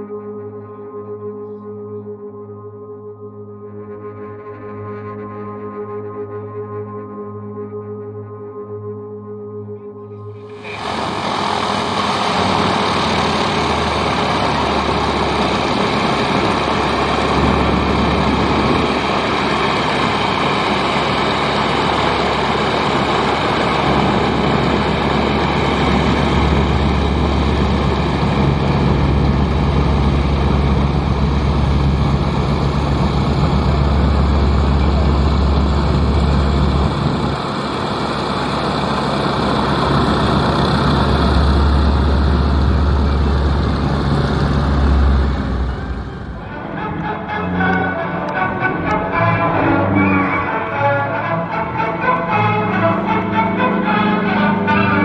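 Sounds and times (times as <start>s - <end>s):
propeller plane flying overhead: 9.6s - 55.0s.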